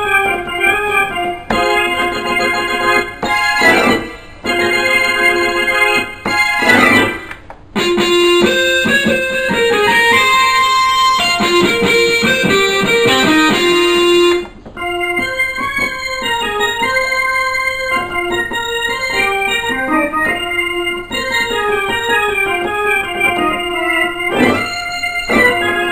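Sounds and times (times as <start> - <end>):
electronic keyboard playing: 0.0 - 25.9.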